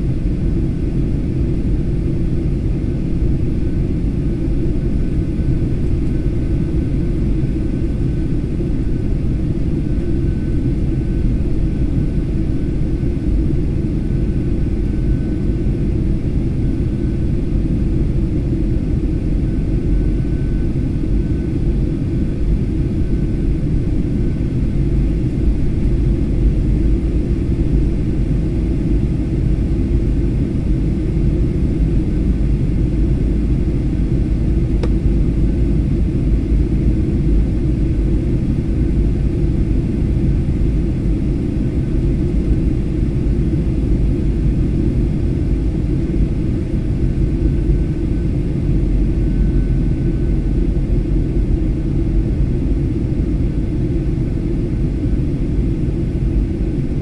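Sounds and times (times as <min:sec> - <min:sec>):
airflow in aircraft cabin: 0:00.0 - 0:57.0
low rumble of jet engines: 0:00.0 - 0:57.0
faint high whine: 0:01.7 - 0:57.0.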